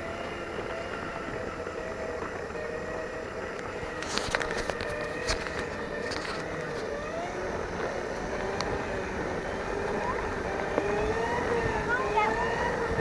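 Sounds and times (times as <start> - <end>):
electric motors whining: 0.0 - 13.0
steady rushing noise: 0.0 - 13.0.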